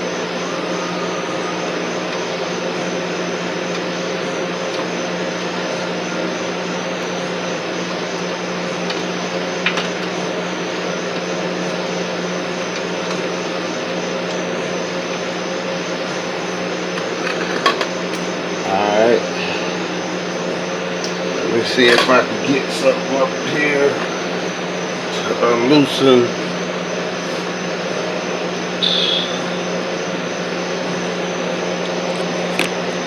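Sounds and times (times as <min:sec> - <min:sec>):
machine drone with low hum: 0:00.0 - 0:33.0.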